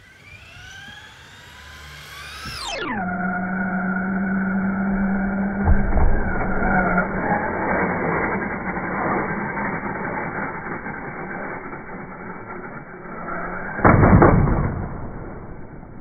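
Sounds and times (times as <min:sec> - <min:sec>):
toy truck whirring: 0:00.0 - 0:05.6, 0:06.2 - 0:14.1.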